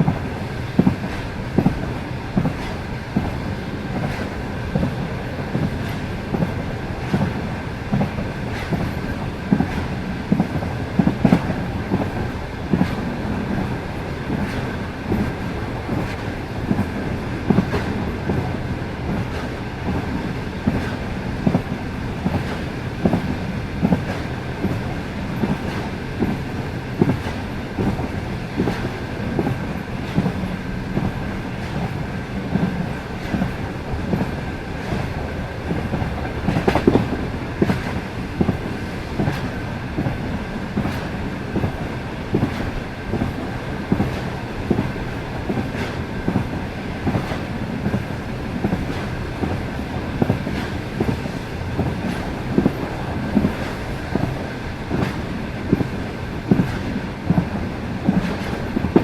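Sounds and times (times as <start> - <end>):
train rumbling: 0.0 - 59.0
wheels clacking over rail joints: 0.0 - 59.0.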